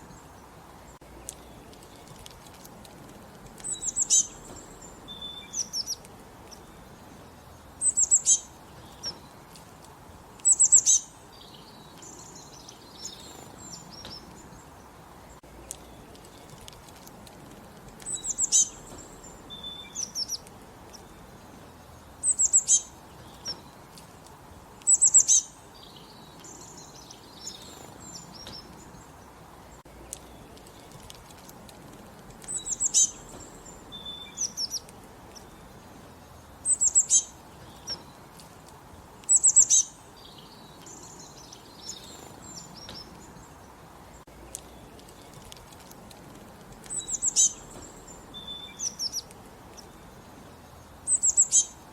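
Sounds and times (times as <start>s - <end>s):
songbirds singing: 0.0s - 51.9s
steady low hiss: 0.0s - 51.9s.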